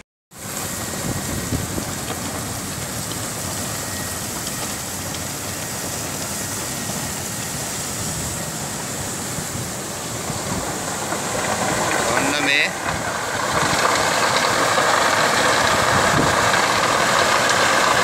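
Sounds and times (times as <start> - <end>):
coal pouring from chute: 0.3 - 18.0.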